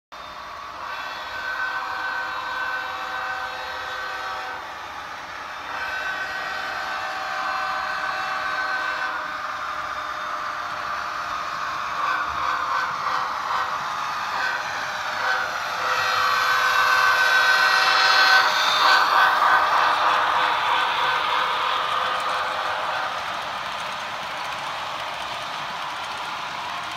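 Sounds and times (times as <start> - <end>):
model train hum: 0.2 - 26.9.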